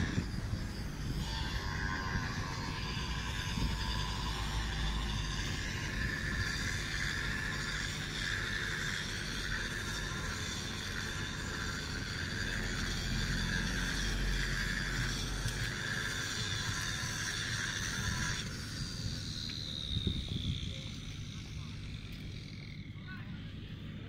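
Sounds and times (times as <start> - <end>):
tram rolling on rails: 0.0 - 22.9.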